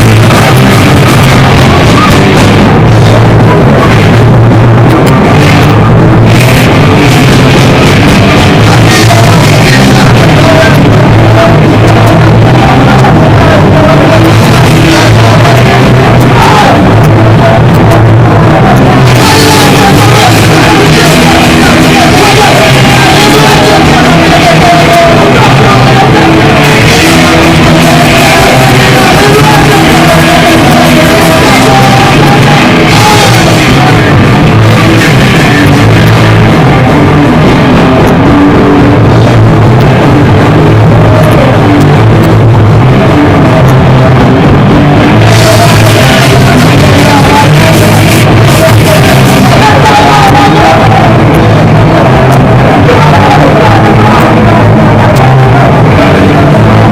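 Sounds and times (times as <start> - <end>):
singing and shouted vocals: 0.0 - 56.9.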